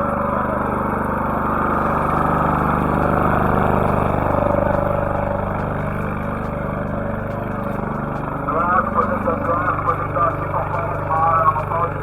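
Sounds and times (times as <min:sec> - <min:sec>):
vehicle engine running loudly: 0:00.0 - 0:12.0.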